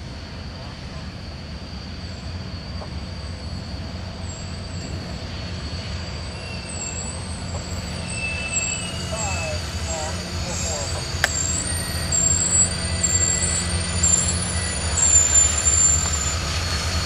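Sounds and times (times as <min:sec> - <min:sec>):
train engine rumble: 0:00.0 - 0:17.0
train wheel squeal: 0:00.0 - 0:17.0.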